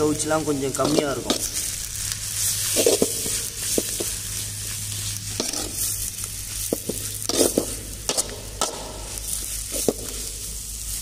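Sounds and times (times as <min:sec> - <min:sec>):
onions sizzling in oil: 0:00.0 - 0:11.0
metal ladle scraping a pan: 0:00.8 - 0:10.2.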